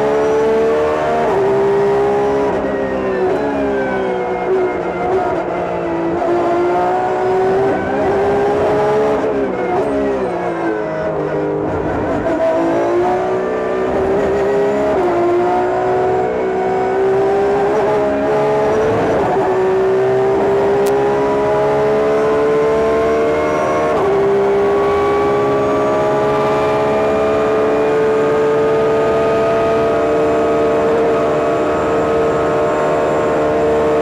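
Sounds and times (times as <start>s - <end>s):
race car engine: 0.0s - 34.0s.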